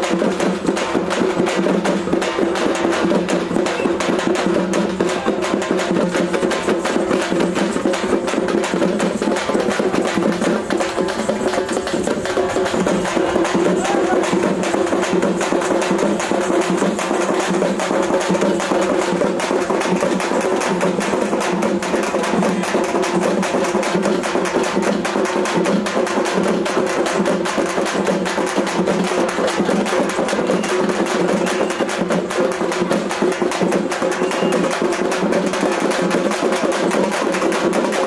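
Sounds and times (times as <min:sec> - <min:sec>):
fast drumming: 0:00.0 - 0:38.0.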